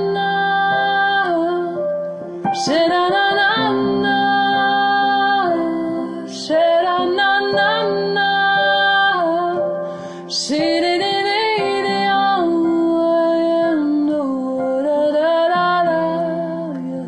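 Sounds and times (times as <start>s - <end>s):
woman singing wordless phrases: 0.0s - 1.9s, 2.5s - 9.7s, 10.3s - 17.0s
piano chords: 0.0s - 17.0s.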